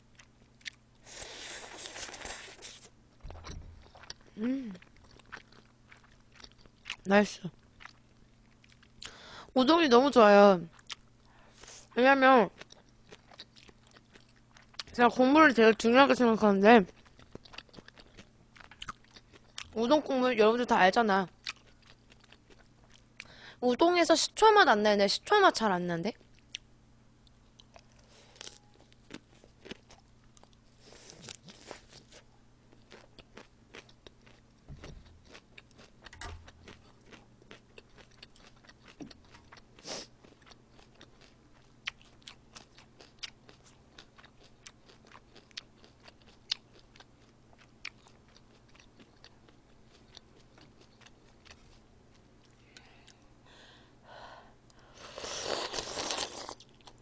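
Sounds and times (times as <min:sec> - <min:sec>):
chewing crisp salad greens: 0:00.0 - 0:09.2, 0:10.6 - 0:19.8, 0:26.2 - 0:53.2, 0:55.0 - 0:57.0.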